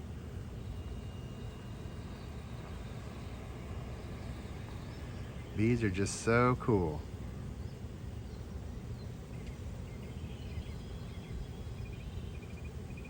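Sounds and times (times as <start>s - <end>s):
low outdoor background noise: 0.0s - 13.0s
bird chirping: 0.5s - 13.0s.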